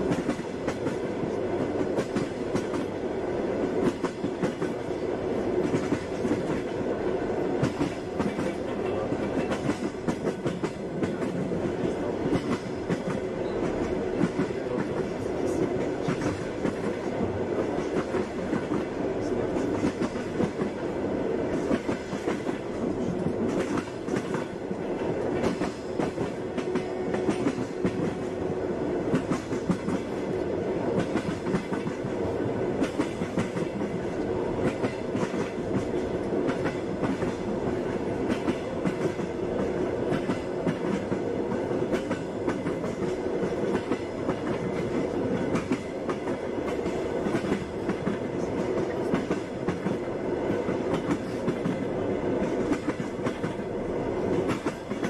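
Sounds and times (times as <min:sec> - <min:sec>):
clacks at rail joints: 0:00.0 - 0:03.0, 0:03.6 - 0:05.0, 0:05.6 - 0:06.8, 0:07.6 - 0:20.8, 0:21.5 - 0:55.0
train wheels rumbling on rails: 0:00.0 - 0:55.0.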